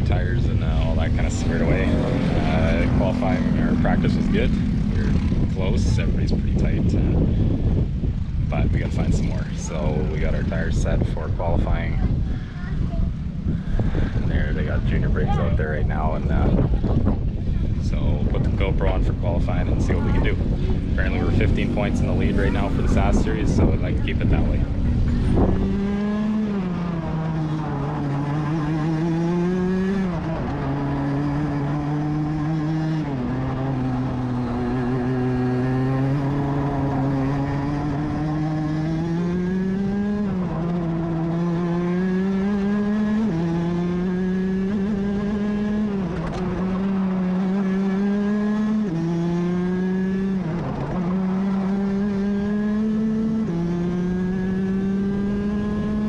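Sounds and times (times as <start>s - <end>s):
two-stroke kart engine: 0.0s - 10.5s, 19.6s - 56.0s.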